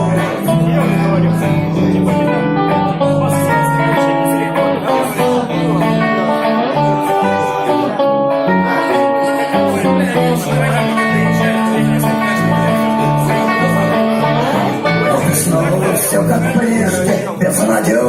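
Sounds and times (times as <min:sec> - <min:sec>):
bass line: 0:00.0 - 0:18.0
plucked and strummed guitar: 0:00.0 - 0:18.0.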